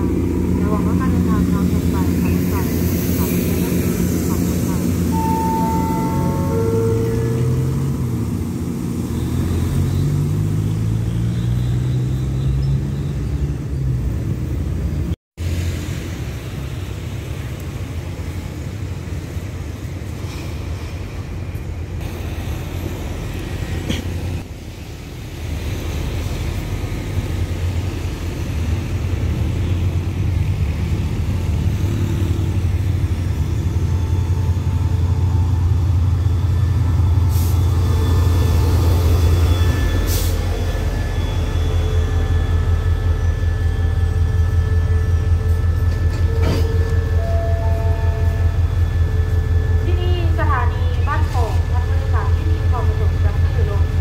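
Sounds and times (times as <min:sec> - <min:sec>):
diesel locomotive drone: 0:00.0 - 0:54.0
diesel railcar engines rising: 0:00.0 - 0:54.0.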